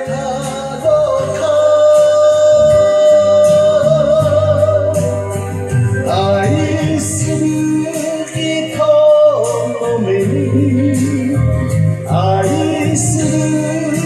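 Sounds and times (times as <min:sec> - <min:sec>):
karaoke backing track: 0:00.0 - 0:14.0
man singing into microphone: 0:00.0 - 0:14.0.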